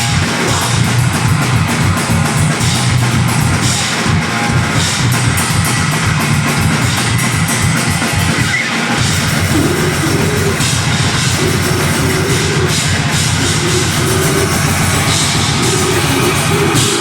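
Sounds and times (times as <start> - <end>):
drum kit pounding: 0.0 - 17.0
heavy metal band playing: 0.0 - 17.0.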